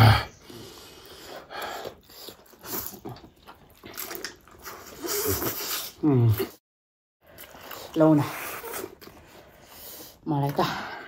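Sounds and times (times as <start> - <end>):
slurping and chewing noodles: 0.3 - 6.6, 7.2 - 10.6.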